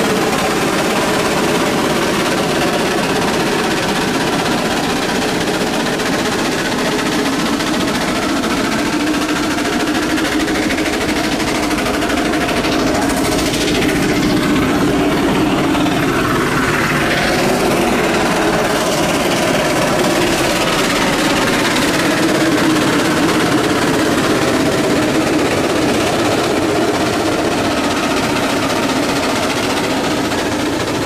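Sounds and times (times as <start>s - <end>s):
steam engine mechanical clatter: 0.0s - 31.0s.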